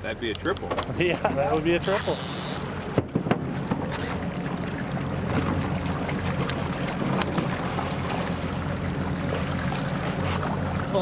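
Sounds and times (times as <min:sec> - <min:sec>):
outboard motor humming: 0:00.0 - 0:11.0
wind: 0:00.0 - 0:11.0
fish splashing: 0:01.6 - 0:11.0.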